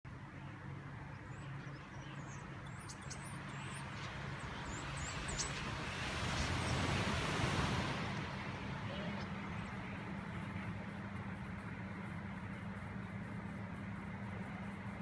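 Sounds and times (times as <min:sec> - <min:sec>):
traffic hum: 0:02.4 - 0:15.0.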